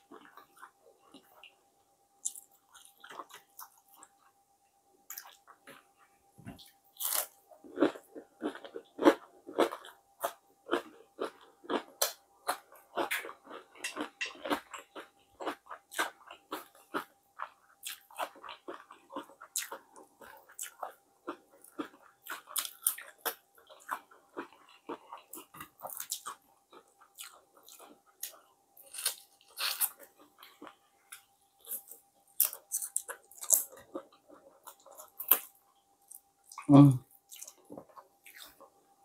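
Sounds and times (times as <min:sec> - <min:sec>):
chewing crunchy fried food: 0:00.0 - 0:04.4, 0:05.0 - 0:39.0.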